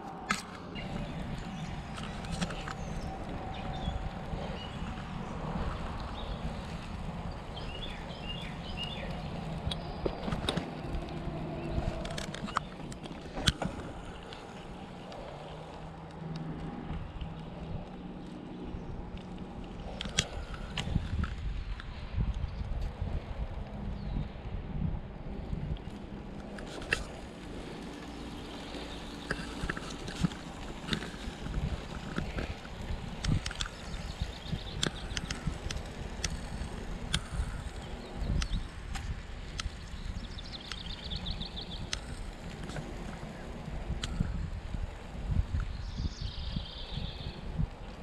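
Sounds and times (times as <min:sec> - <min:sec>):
bicycle clicks and rattles: 0:00.0 - 0:48.0
wind and tyre rumble: 0:00.0 - 0:48.0.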